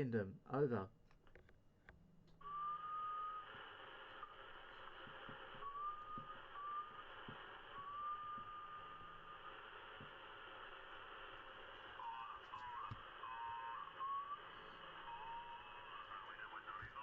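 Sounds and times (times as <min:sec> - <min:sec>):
radio receiver hiss: 0:02.4 - 0:17.0.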